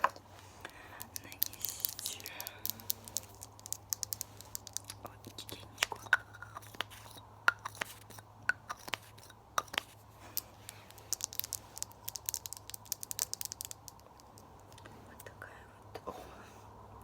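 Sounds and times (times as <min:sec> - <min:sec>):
wet mouth clicks and smacks: 0:00.7 - 0:14.9.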